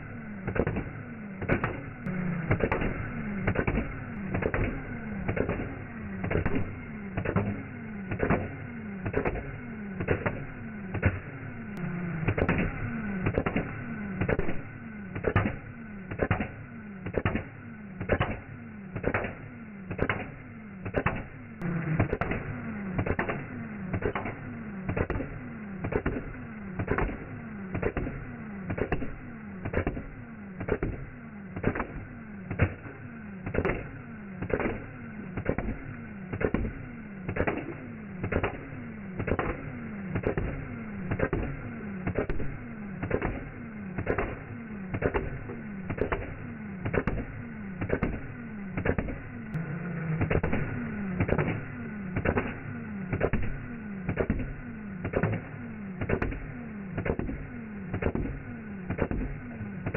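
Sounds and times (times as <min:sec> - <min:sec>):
gel blaster shots: 0:00.0 - 0:59.9.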